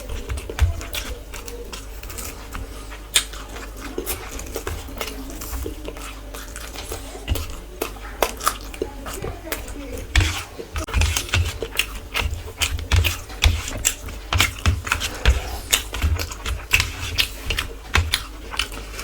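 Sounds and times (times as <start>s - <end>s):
chewing and mouth noises: 0.0s - 19.0s.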